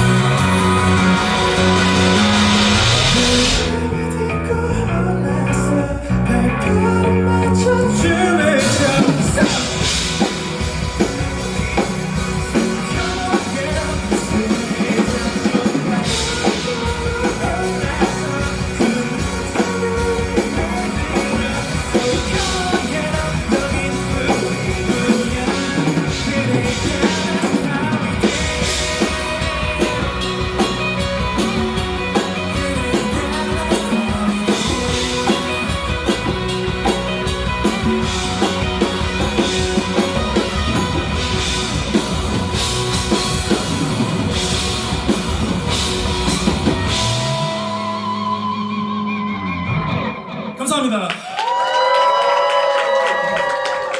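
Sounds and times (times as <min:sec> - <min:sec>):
drum kit beat: 0:00.0 - 0:04.2, 0:08.0 - 0:48.6
rock band playing: 0:00.0 - 0:53.9.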